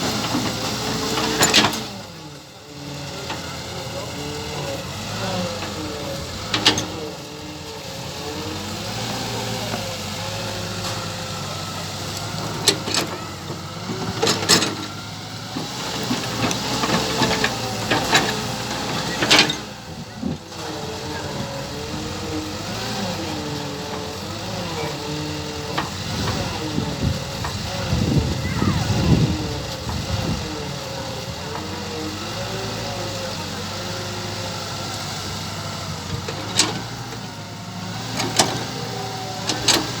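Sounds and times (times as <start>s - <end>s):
model excavator motors humming: 0.0s - 40.0s.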